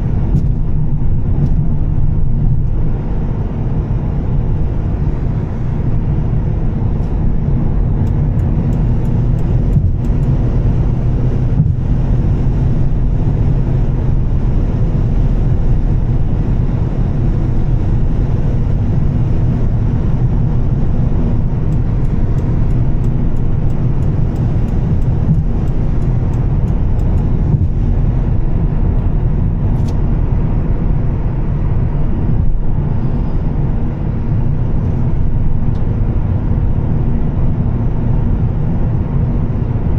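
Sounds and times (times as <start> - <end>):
car engine and exhaust rumble: 0.0 - 39.9.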